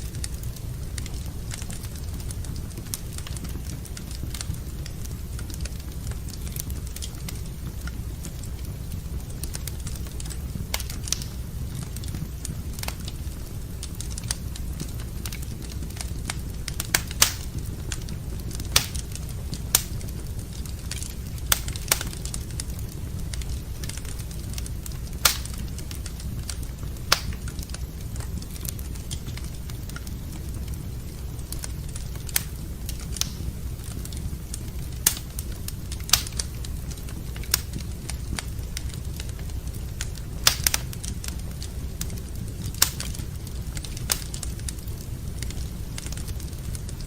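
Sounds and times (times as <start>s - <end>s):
fire low rumble: 0.0s - 47.0s
wood fire crackling: 0.0s - 47.0s.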